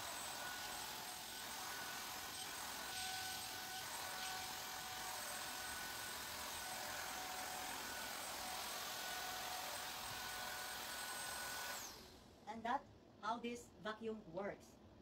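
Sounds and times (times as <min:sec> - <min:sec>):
handheld vacuum cleaner running: 0:00.0 - 0:12.2
vacuum motor spinning down: 0:00.0 - 0:12.2.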